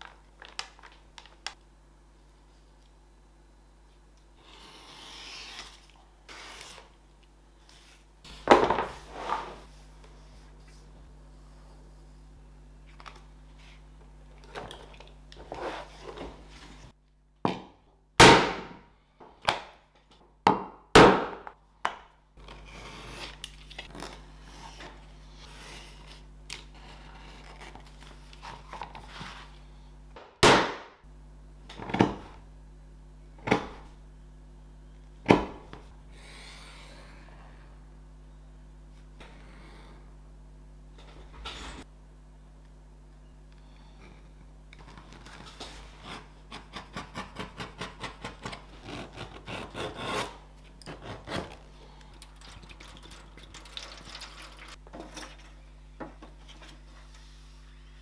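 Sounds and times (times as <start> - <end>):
steady low hum: 0.0 - 20.5, 21.3 - 58.0.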